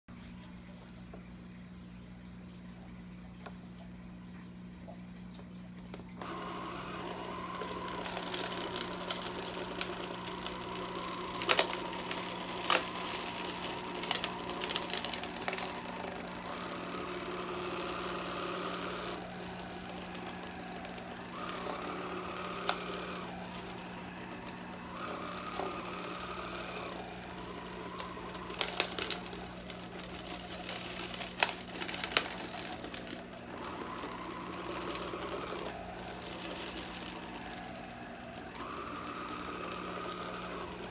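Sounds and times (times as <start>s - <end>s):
small motor humming: 5.9s - 40.9s.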